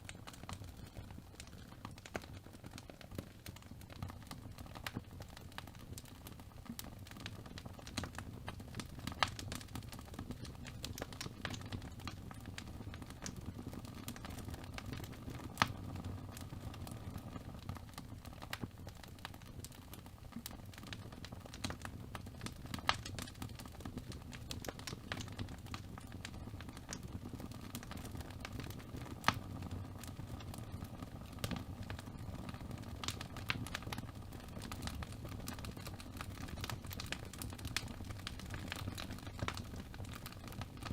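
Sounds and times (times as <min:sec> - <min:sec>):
fire popping: 0:00.0 - 0:40.9
fire rumbling and crackling: 0:00.0 - 0:40.9.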